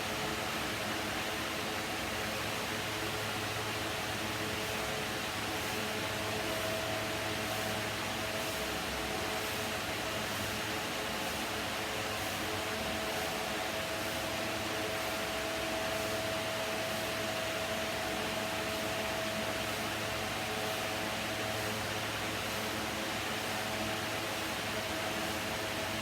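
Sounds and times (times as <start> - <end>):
electric fan running: 2.8 - 26.0.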